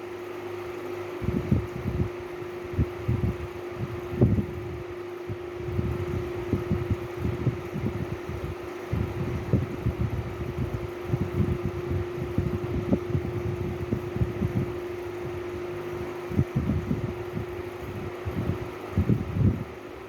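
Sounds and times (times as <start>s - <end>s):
electric fan humming: 0.0s - 20.0s
airflow buffeting microphone: 1.0s - 20.0s.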